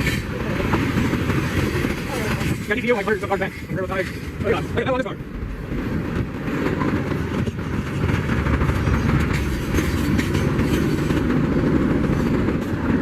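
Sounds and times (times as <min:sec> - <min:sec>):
freight train rumbling past: 0:00.0 - 0:13.0
wheels clicking over rails: 0:00.0 - 0:13.0.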